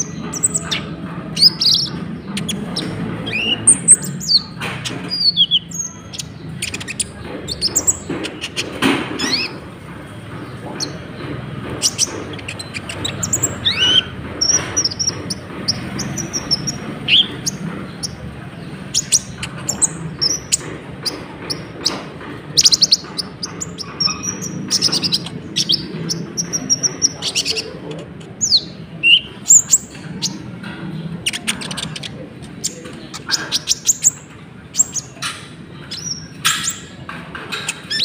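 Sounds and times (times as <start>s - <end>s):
bird singing chirps and trills: 0.0s - 38.0s.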